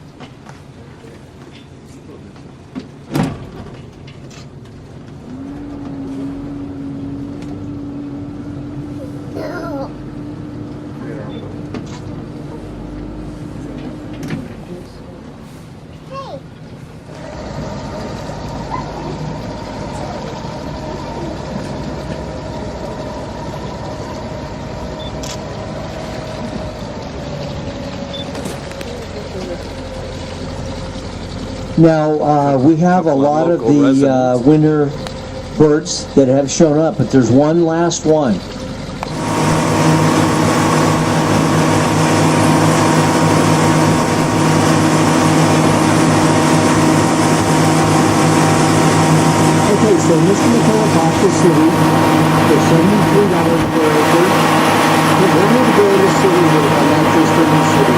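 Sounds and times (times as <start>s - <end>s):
boat engine whining and rumbling: 0.0s - 57.9s.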